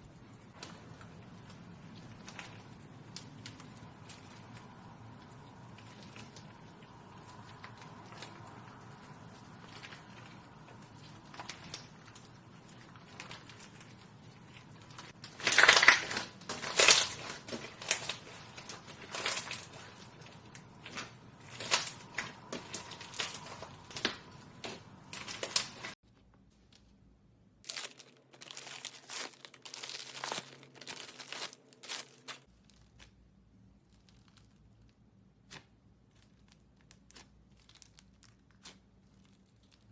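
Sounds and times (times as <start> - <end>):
slime crackling and popping: 0.5 - 26.0, 27.6 - 39.9.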